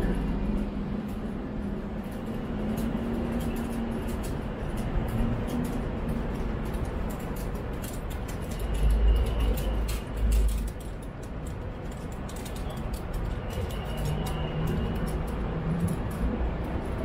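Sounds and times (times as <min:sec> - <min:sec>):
hum of passing vehicles: 0:00.0 - 0:17.0.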